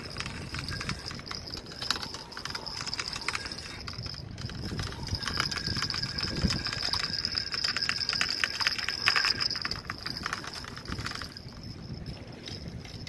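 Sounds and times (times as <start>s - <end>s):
fishing reel ticking: 0.0s - 13.0s.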